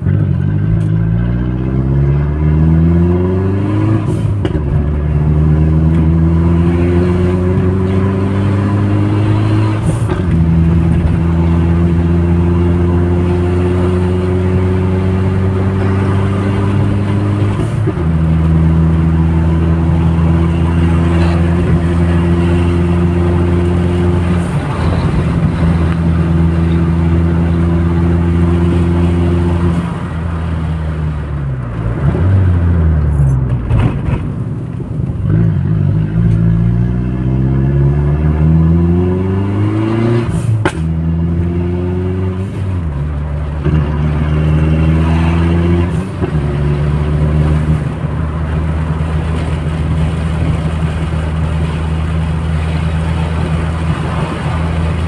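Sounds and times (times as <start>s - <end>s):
car engine running: 0.0s - 36.8s, 40.5s - 55.0s.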